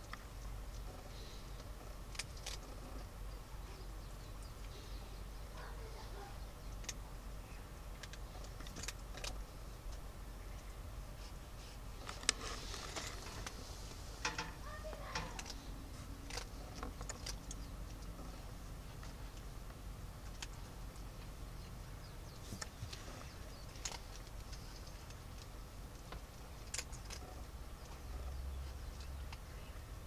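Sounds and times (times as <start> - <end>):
paws clicking and scratching: 0.0 - 7.1, 7.9 - 10.1, 11.2 - 13.6, 14.2 - 30.0.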